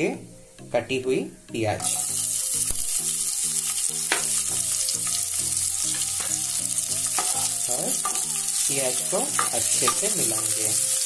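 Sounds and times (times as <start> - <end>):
soft background music: 0.0 - 11.0
onions sizzling in oil: 1.8 - 11.0.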